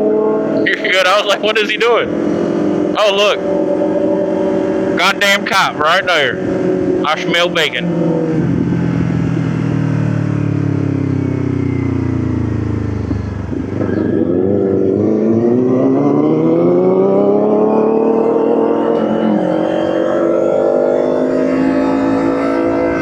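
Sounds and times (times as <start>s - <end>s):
motorcycle engine: 0.0s - 23.0s.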